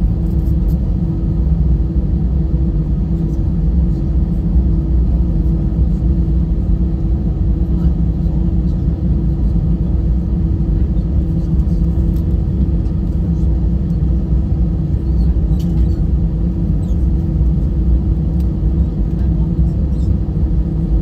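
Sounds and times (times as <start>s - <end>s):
jet engine hum: 0.0s - 21.0s.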